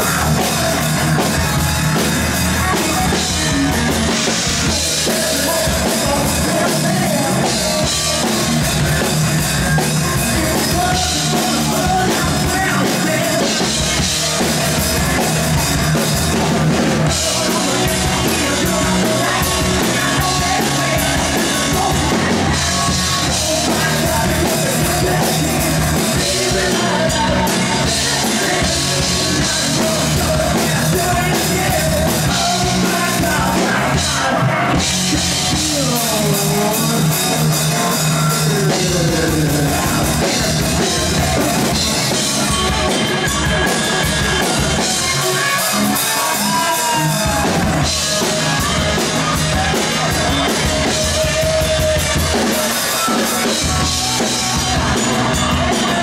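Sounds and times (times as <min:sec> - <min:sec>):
man singing: 0:00.0 - 0:56.0
metal band playing: 0:00.0 - 0:56.0
pounding drum kit: 0:00.0 - 0:56.0.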